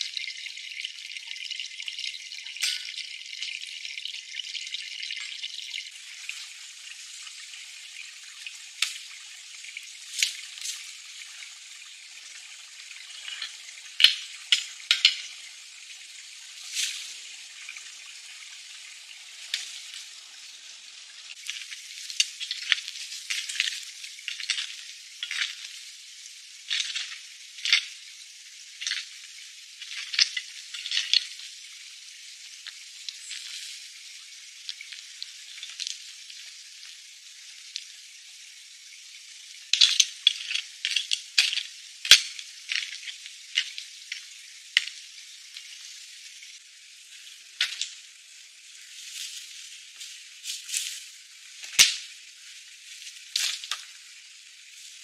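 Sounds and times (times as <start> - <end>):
thin hiss: 0.0 - 55.0.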